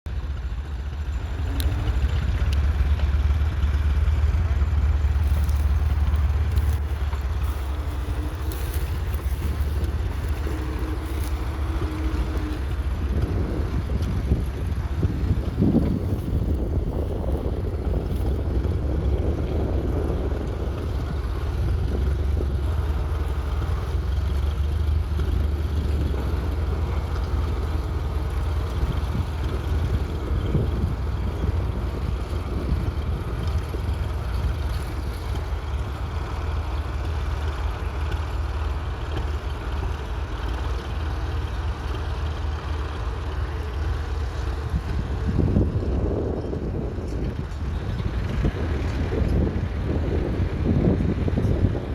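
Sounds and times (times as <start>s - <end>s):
tractor engine rumbling: 0.0s - 51.9s.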